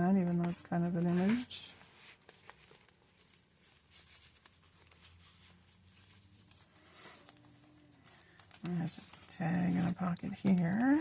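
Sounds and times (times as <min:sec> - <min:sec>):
paper pages rustling: 0:00.3 - 0:11.0.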